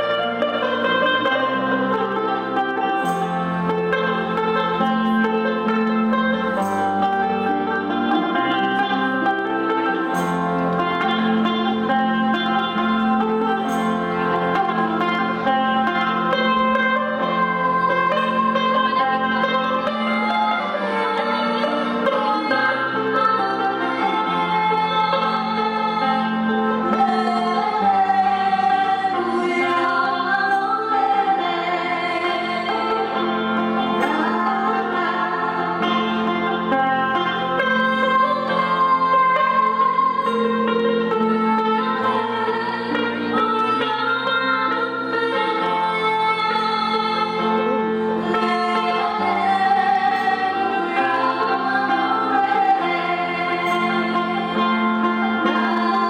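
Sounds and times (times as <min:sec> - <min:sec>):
acoustic guitar: 0:00.0 - 0:56.0
instrumental backing music: 0:00.0 - 0:56.0
person singing long notes: 0:00.0 - 0:56.0
plucked lute: 0:00.0 - 0:56.0.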